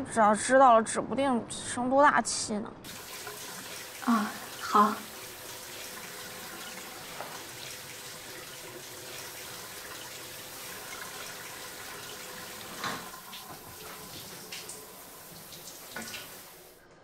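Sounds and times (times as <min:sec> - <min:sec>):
water running from tap: 0:02.9 - 0:16.8.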